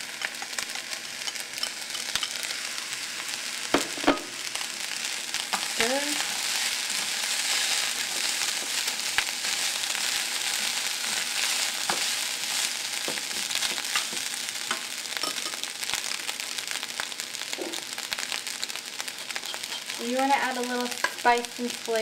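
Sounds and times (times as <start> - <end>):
rice sizzling in a frying pan: 0.0 - 22.0.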